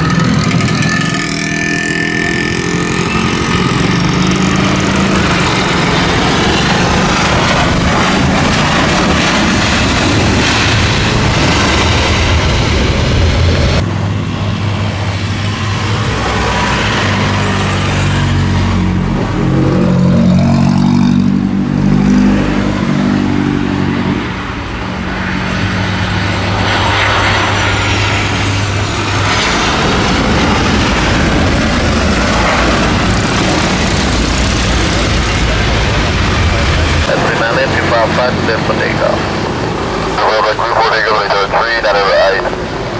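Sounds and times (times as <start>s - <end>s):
jet engine roar: 0.0s - 42.9s.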